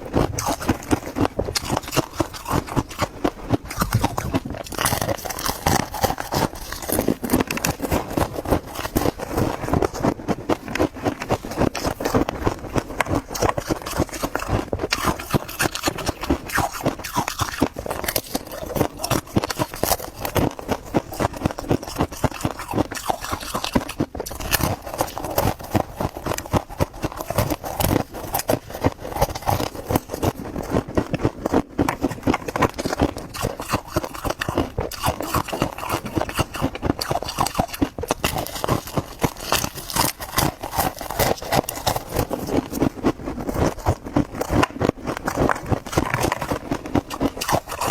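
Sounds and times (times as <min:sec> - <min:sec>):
frost being chewed: 0:00.0 - 0:47.9.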